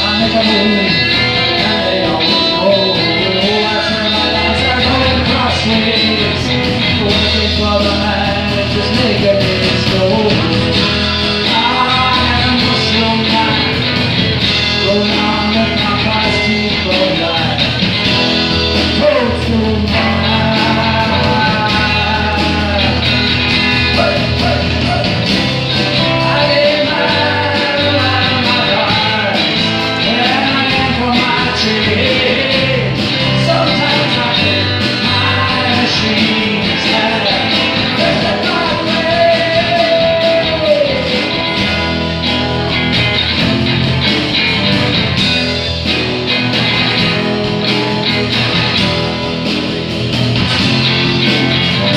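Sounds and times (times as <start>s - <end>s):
person singing: 0.0s - 42.4s
drum kit: 0.0s - 51.9s
electric bass: 0.0s - 51.9s
strummed guitars: 0.0s - 51.9s.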